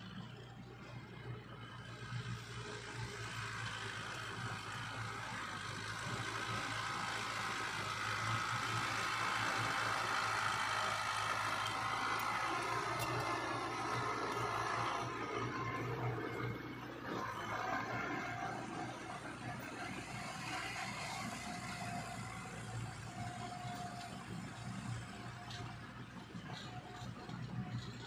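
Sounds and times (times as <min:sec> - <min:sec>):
heavy machine diesel engine running: 0:00.0 - 0:28.0.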